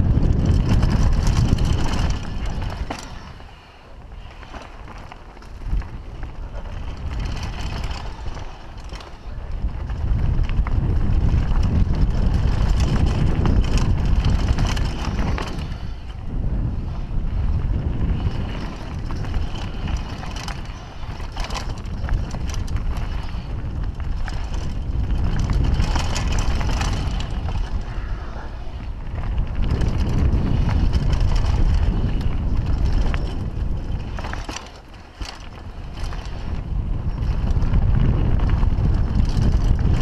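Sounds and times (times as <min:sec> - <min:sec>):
bike clattering over rocks: 0:00.0 - 0:03.5, 0:04.3 - 0:16.0, 0:17.7 - 0:28.1, 0:29.2 - 0:40.0
tyres on dirt trail: 0:00.0 - 0:40.0
wind buffeting camera: 0:00.0 - 0:40.0.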